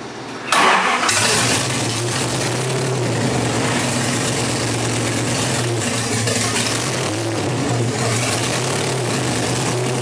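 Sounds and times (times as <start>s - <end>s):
engine starting and idling loudly: 0.5s - 10.0s.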